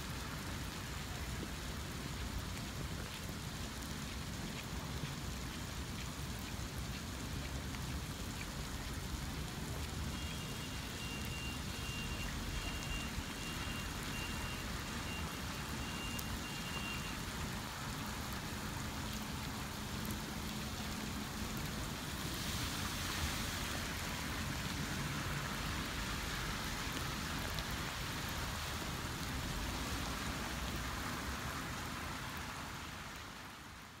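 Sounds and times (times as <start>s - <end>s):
rain splashing on hard surfaces: 0.0s - 34.0s.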